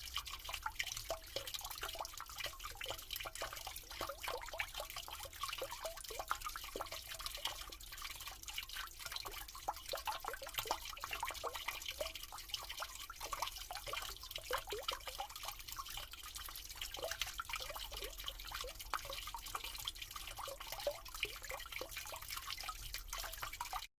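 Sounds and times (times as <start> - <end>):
water gurgling down a drain: 0.0 - 23.9.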